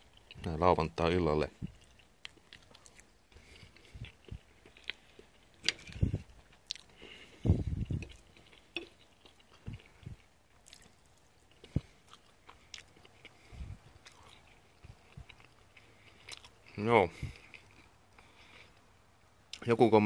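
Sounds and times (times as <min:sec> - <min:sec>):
person chewing: 0:00.0 - 0:00.5, 0:01.6 - 0:18.9.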